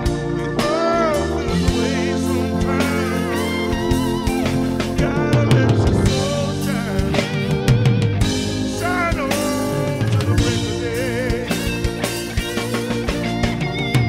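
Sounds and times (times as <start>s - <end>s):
bass guitar: 0.0s - 14.0s
drums: 0.0s - 14.0s
lead electric guitar: 0.0s - 14.0s.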